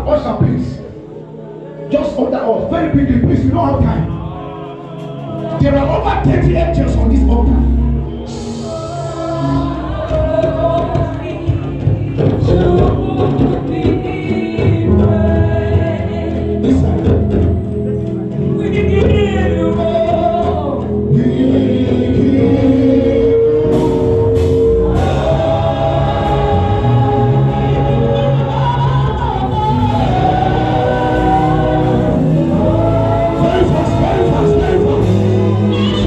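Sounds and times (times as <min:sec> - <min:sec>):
congregation singing praise song: 0:00.0 - 0:36.0
full band playing gospel music: 0:00.0 - 0:36.0.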